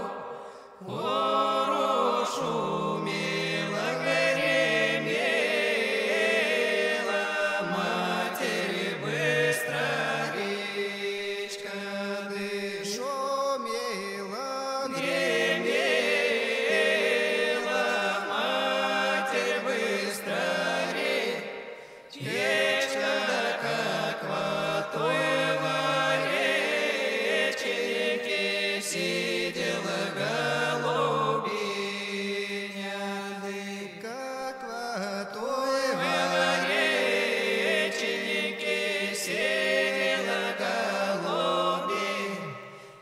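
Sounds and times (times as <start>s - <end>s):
voices singing chant-like notes: 0.0s - 43.0s.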